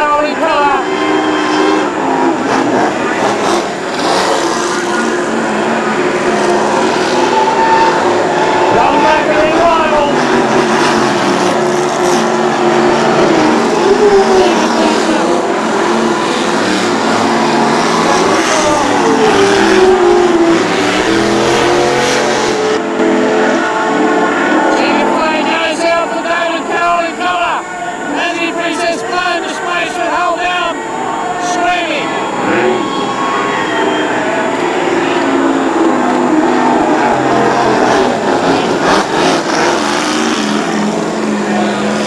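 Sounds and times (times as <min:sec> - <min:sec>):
racing powerboat engine: 0:00.0 - 0:42.0.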